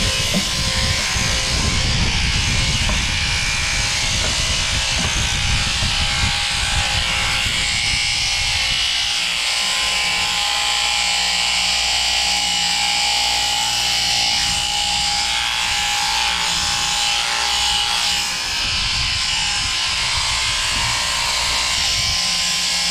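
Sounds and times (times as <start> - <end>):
electric shears clipping wool: 0.0 - 22.9.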